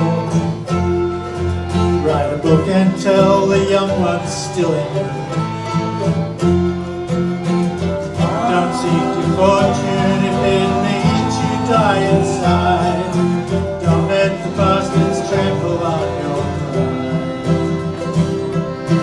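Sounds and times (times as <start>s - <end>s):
bluegrass band playing: 0.0s - 19.0s.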